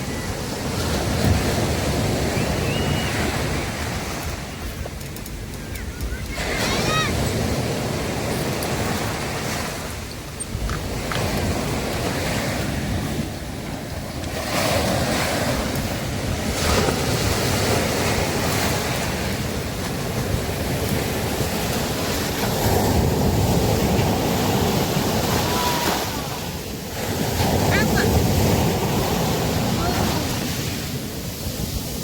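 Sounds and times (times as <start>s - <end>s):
sea waves breaking on beach: 0.0s - 32.0s
wind buffeting microphone: 0.0s - 32.0s.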